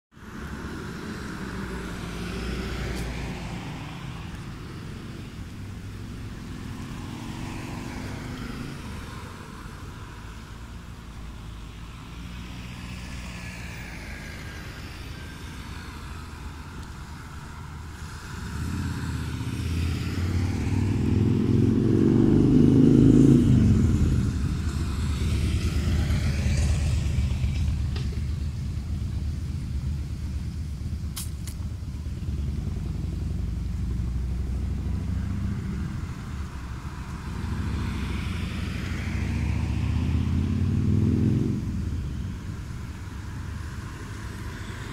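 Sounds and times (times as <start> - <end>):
road traffic rumble: 0.1 - 44.9
vehicle passing by: 0.2 - 44.9.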